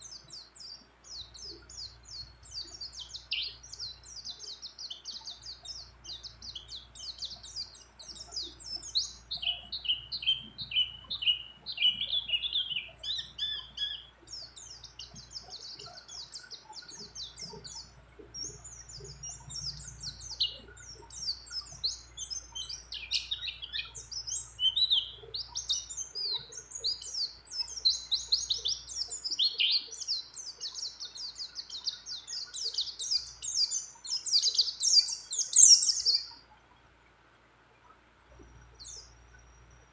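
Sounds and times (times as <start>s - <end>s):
bird twittering song: 0.0s - 37.0s, 37.8s - 39.9s.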